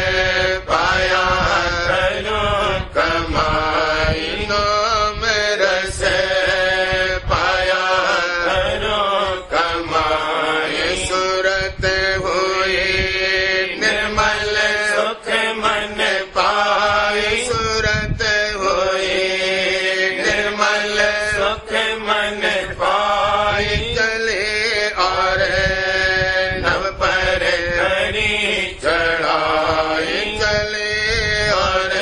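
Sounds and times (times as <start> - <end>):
person chanting a hymn: 0.0 - 32.0
steady drone: 0.0 - 32.0.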